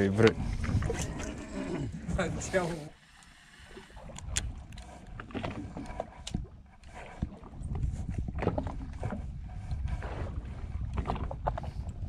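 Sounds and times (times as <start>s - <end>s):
wind rumbling on microphone: 0.0s - 2.9s, 3.9s - 12.0s.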